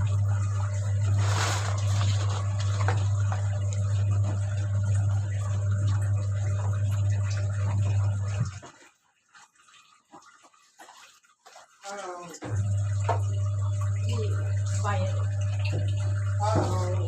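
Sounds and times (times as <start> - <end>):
washing machine electrical hum: 0.0 - 17.0.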